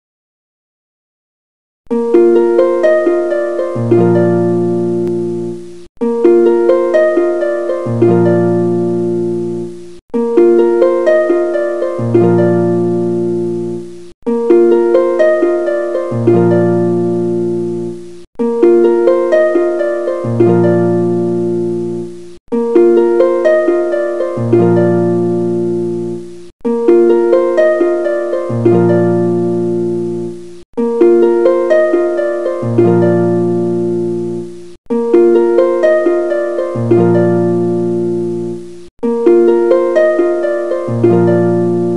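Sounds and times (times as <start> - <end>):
plucked harp-like melody: 1.9 - 41.9.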